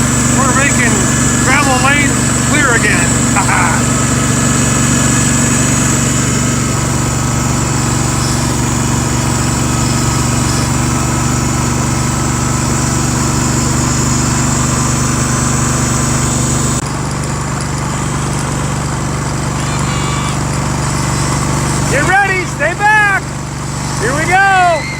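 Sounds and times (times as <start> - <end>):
garden tractor engine running: 0.0 - 24.9.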